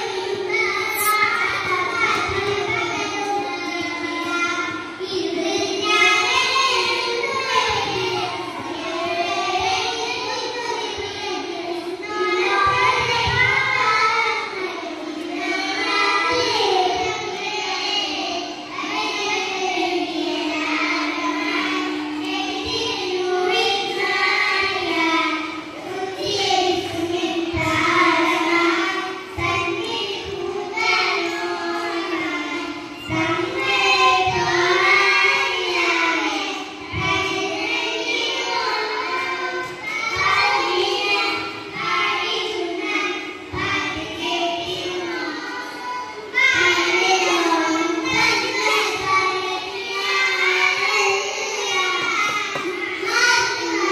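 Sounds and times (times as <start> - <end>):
children singing: 0.0 - 53.9.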